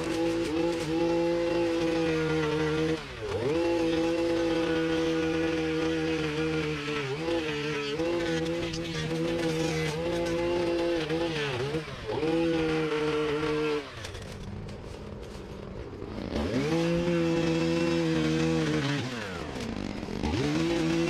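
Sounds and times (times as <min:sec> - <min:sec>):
string trimmer engine revving: 0:00.0 - 0:21.0.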